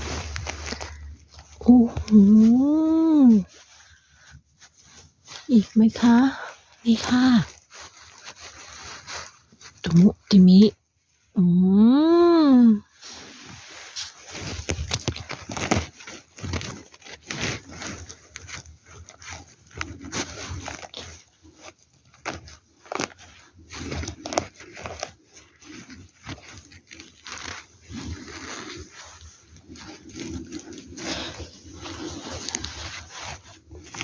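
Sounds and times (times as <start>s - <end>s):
twigs and leaves crackling: 0.0s - 11.2s, 13.2s - 34.0s.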